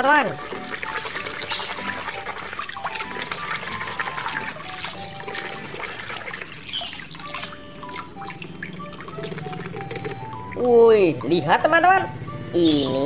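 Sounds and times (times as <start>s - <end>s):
water sloshing in a basin: 0.0s - 11.4s.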